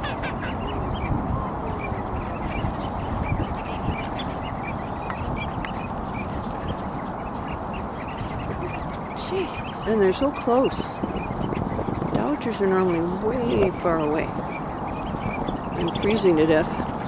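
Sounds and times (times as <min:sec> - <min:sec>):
ducks quacking: 0:00.0 - 0:17.0
flock of birds calling: 0:00.0 - 0:17.0.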